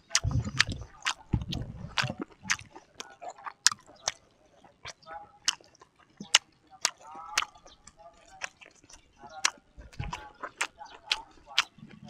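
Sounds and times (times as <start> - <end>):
lip smacks and mouth clicks: 0.0 - 12.0.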